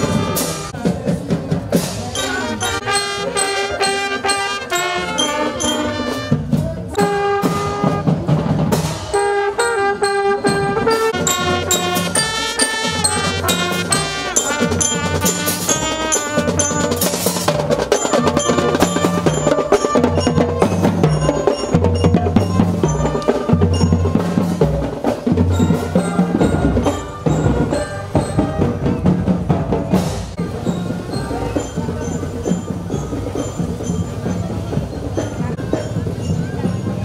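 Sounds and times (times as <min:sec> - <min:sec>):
trumpets and mellophones melody: 0:00.0 - 0:00.8, 0:02.2 - 0:34.3
marching drums: 0:00.0 - 0:37.0
marching bell-lyres chiming: 0:02.0 - 0:37.0.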